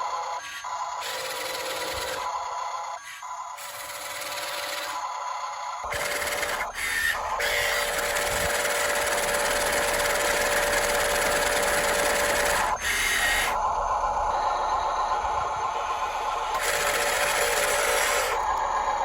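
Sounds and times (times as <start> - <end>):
small electric motor whining: 0.0 - 19.0.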